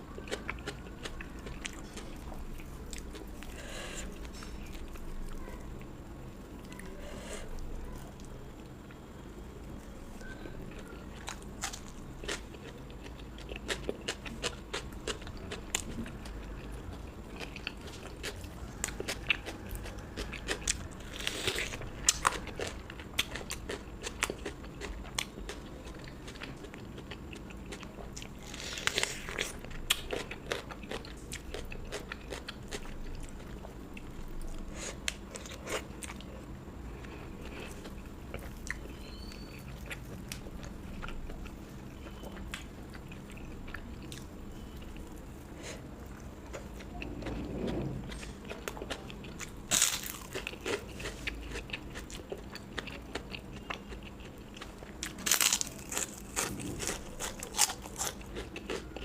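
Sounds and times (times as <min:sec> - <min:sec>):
crunchy chewing of food: 0:00.0 - 0:59.0.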